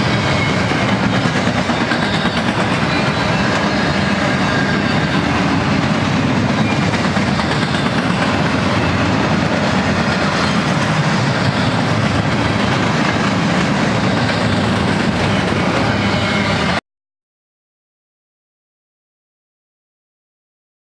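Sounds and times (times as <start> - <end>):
train wheels rumbling on track: 0.0 - 16.8.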